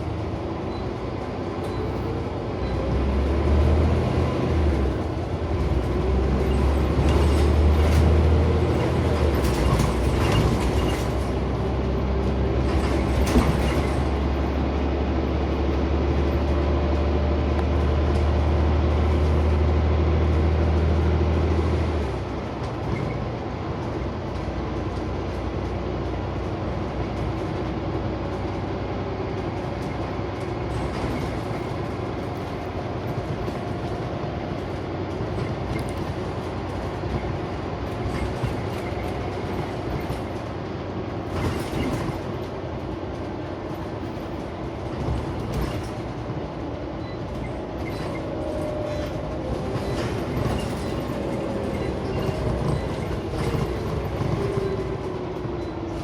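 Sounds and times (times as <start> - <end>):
bus engine: 0.0 - 56.0
road noise rumble: 0.0 - 56.0.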